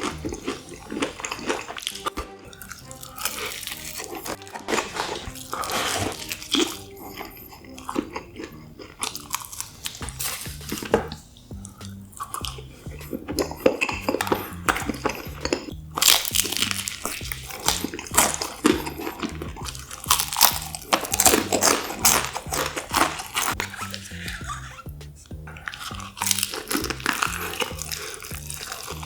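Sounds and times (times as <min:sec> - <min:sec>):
crisp crunching and chewing: 0:00.0 - 0:29.0
soft background music: 0:00.0 - 0:29.0.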